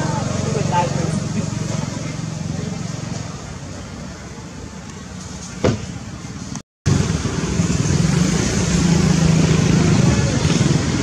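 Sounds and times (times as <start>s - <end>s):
motor vehicle engine hum: 0.0s - 11.0s.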